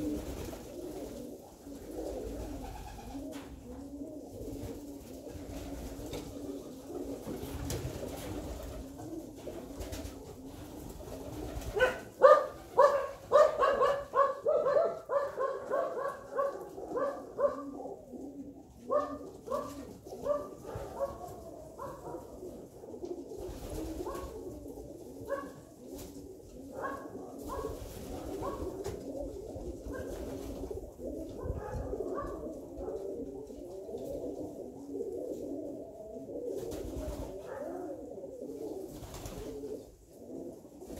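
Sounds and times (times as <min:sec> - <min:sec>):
flock of pigeons cooing: 0:00.0 - 0:40.9
loud close pigeon coos: 0:00.0 - 0:40.9.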